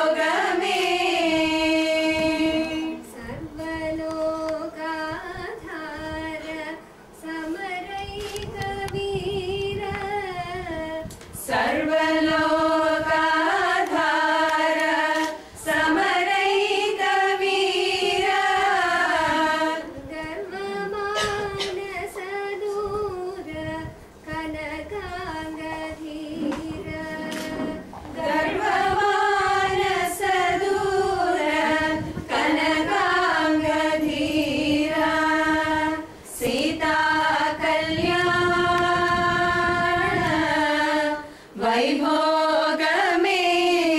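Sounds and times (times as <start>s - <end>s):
women singing unaccompanied: 0.0s - 43.9s.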